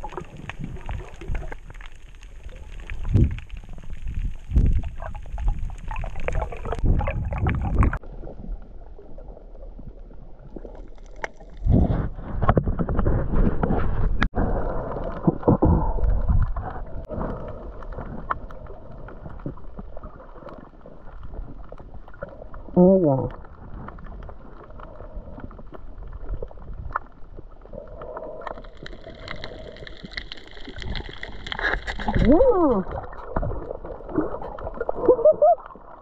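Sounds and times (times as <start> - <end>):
underwater rushing and gurgling: 0.0 - 36.0.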